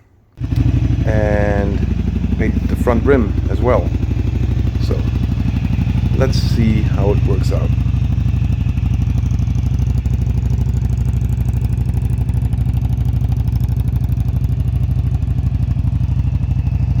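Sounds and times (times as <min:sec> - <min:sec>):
motorcycle engine idling: 0:00.4 - 0:17.0.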